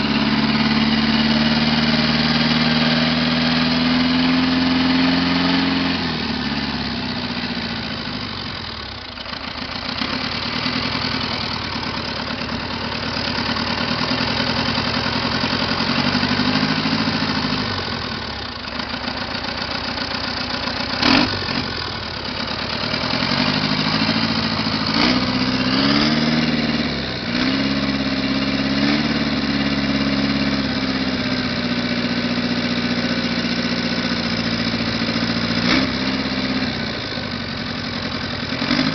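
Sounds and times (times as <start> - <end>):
diesel engine revving: 0.0 - 9.1, 9.8 - 18.5, 20.8 - 38.9.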